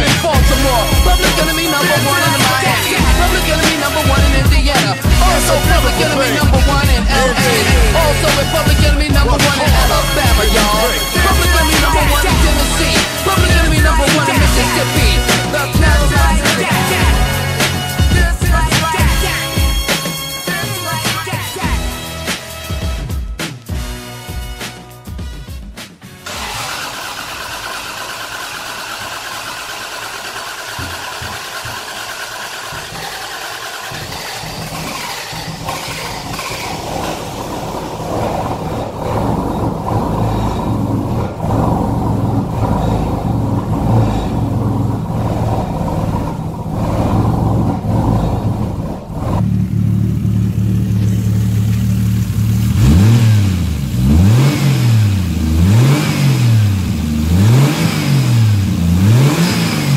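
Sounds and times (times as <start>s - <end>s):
car engine idling: 0.0s - 59.9s
engine revving: 0.0s - 59.9s.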